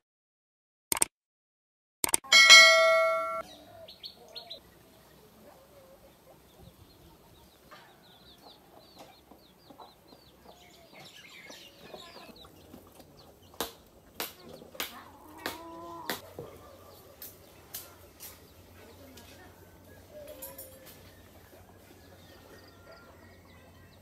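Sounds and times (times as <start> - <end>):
chickens clucking: 2.6 - 23.5
small birds chirping: 3.4 - 24.0.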